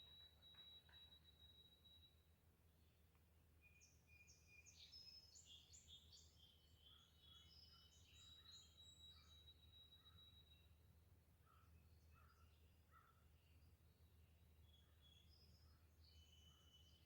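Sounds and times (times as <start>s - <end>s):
songbird chirping: 0.0s - 10.8s, 11.4s - 17.0s.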